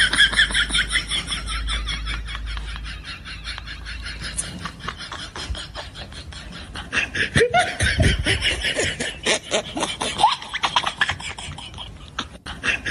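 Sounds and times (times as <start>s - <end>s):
person laughing hard: 0.0s - 12.9s.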